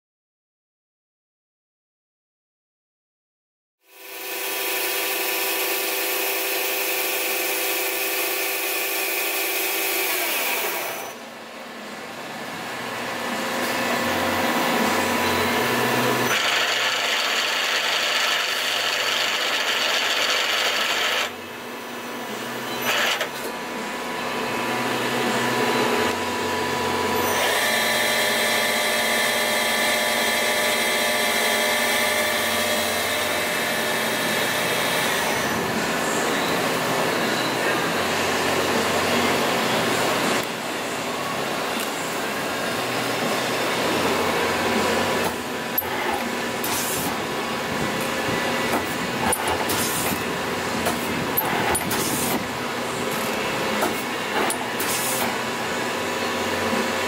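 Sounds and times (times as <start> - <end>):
lathe motor whine: 3.9 - 57.0
machine hum: 4.0 - 57.0.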